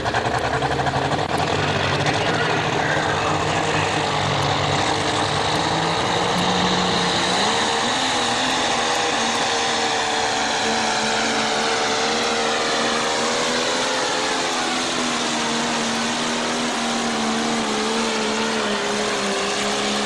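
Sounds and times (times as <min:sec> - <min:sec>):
tractor engine at full throttle: 0:00.0 - 0:20.0.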